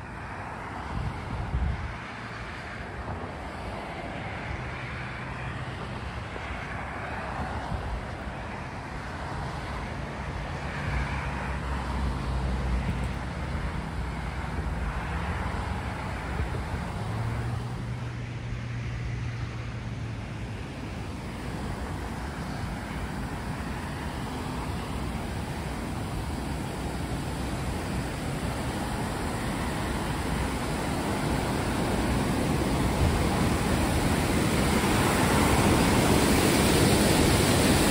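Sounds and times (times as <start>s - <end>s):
cars passing: 0.0s - 37.9s.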